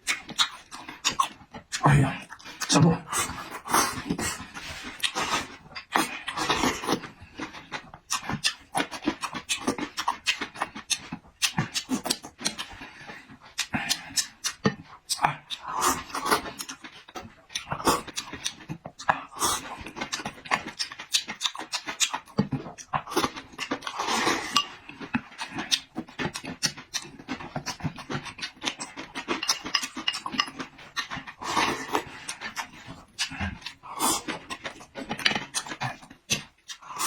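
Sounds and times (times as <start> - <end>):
wet chewing and lip smacking: 0.0 - 37.0.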